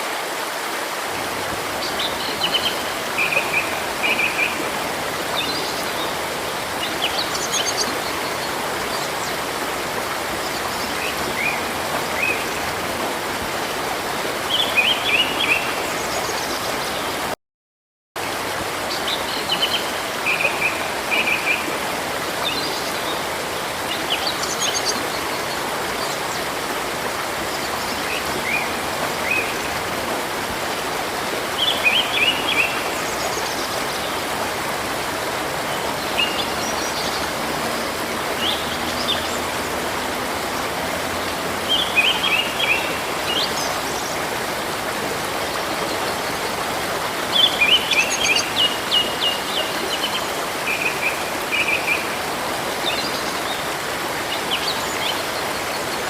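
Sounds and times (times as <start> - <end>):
river water rushing: 0.0 - 17.4, 18.2 - 56.0.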